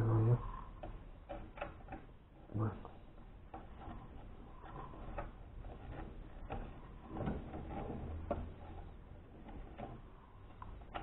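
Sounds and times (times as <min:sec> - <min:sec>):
plastic clicks and knocks: 0:00.7 - 0:11.0.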